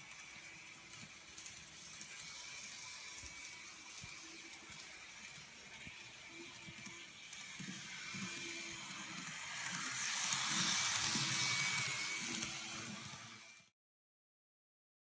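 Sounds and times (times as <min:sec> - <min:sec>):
small motor whining: 0:00.0 - 0:13.7
wheels rumbling on rails: 0:00.0 - 0:13.7.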